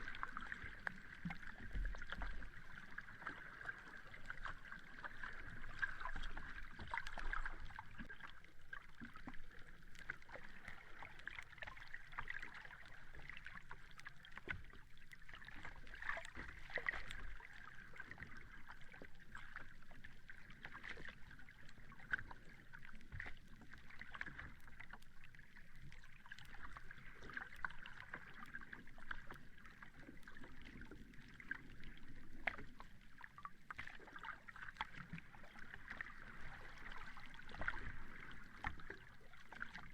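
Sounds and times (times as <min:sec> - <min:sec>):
sea water lapping at shore: 0:00.0 - 0:39.9.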